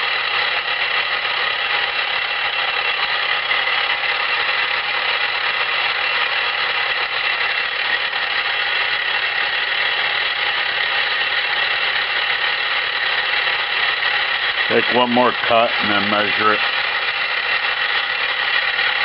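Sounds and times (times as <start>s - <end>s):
constant whining tones: 0.0s - 19.0s
milling machine whirring: 0.0s - 19.0s.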